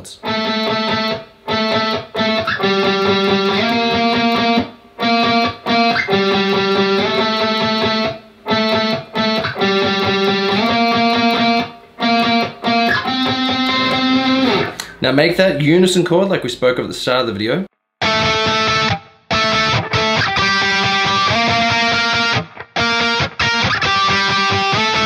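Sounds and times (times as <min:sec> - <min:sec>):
electric guitar rock riff: 0:00.0 - 0:15.0, 0:18.0 - 0:25.0.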